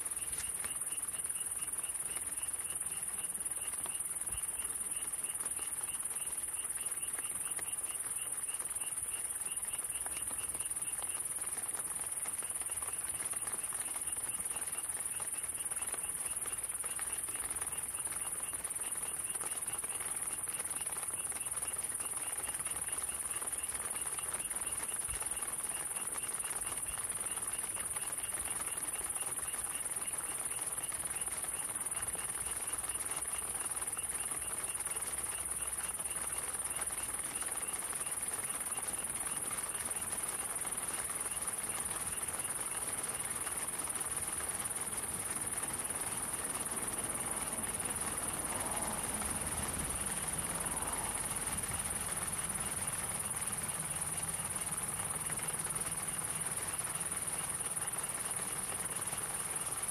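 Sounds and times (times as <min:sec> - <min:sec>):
background hiss: 0:00.0 - 0:59.9
crickets trilling: 0:00.0 - 0:59.9
insect chirping in pulses: 0:00.0 - 0:59.9.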